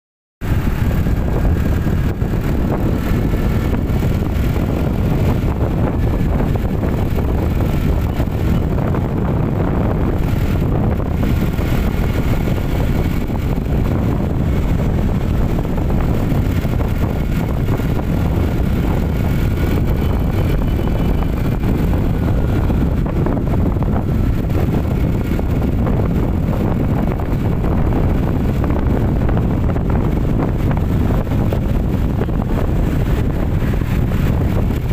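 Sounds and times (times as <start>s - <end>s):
wind buffeting microphone: 0.4s - 34.9s.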